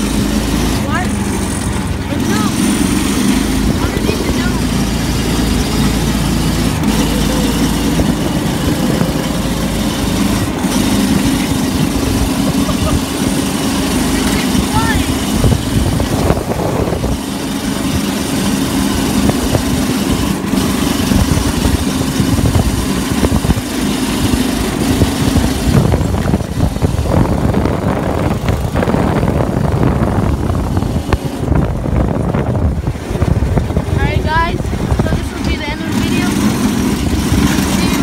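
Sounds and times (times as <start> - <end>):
dense low rumble: 0.0 - 38.0
go-kart engine running: 0.0 - 38.0.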